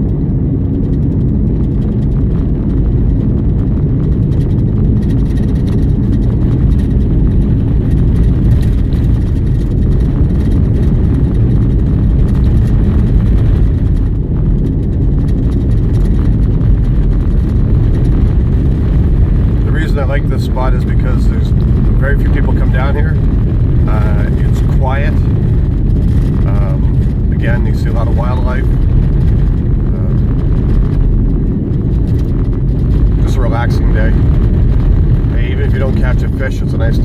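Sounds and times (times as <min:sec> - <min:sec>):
vehicle rumbling on rough road: 0:00.0 - 0:37.0
knocks and rattles: 0:04.0 - 0:37.0.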